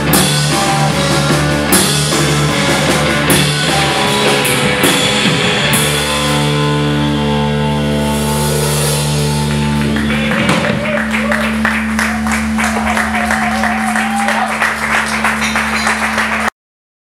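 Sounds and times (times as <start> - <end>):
drums: 0.0 - 16.5
rock band playing loud: 0.0 - 16.5.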